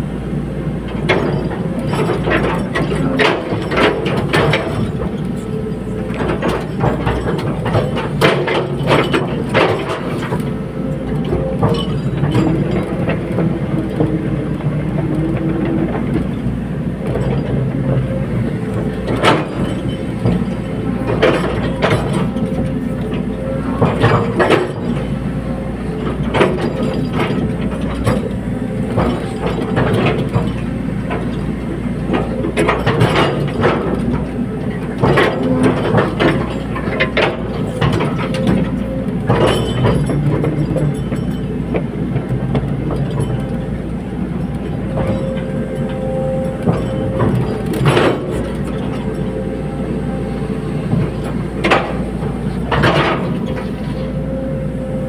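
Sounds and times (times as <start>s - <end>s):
excavator diesel engine running: 0.0s - 55.0s
metallic clanks and knocks: 0.8s - 54.7s.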